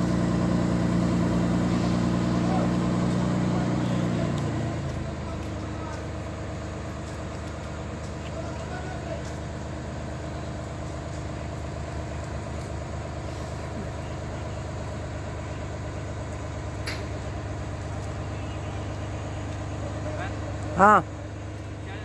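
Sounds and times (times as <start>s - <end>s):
crane diesel engine running: 0.0s - 22.0s.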